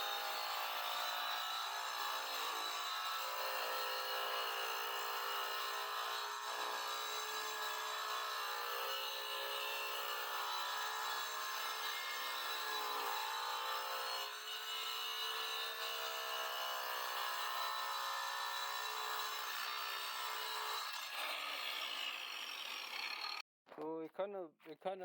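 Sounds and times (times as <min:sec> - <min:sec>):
angle grinder cutting wood: 0:00.0 - 0:23.4.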